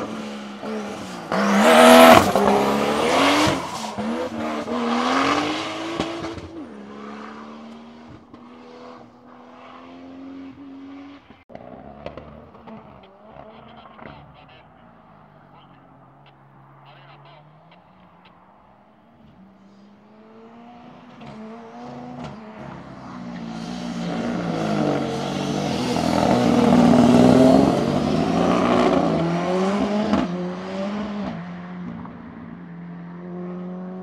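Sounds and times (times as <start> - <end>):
race car passing at speed: 0.0 - 34.0.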